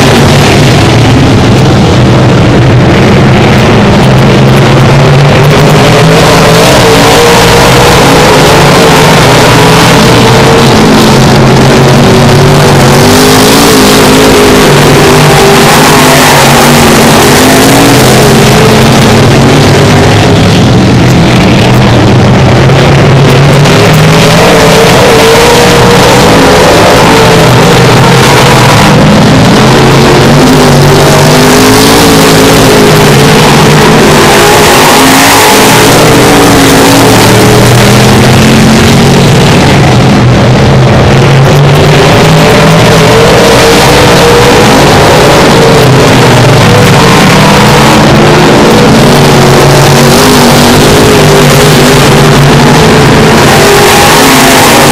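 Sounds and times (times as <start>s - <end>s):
stock cars racing: 0.0s - 54.9s.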